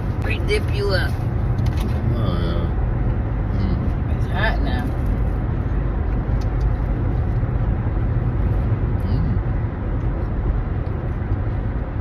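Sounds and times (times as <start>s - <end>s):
car cabin engine and road rumble: 0.0s - 12.0s.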